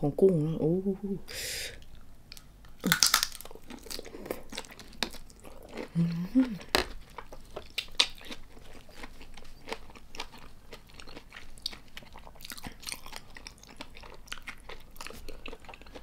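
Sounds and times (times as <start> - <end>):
close chewing of raw prawn: 2.8 - 16.0.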